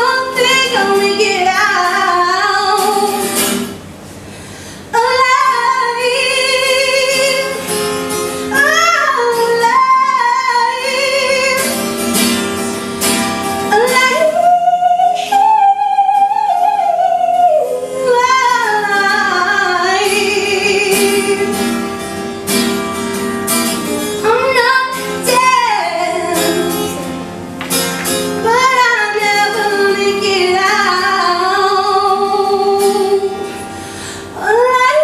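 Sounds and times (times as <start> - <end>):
strummed acoustic guitar: 0.0 - 35.0.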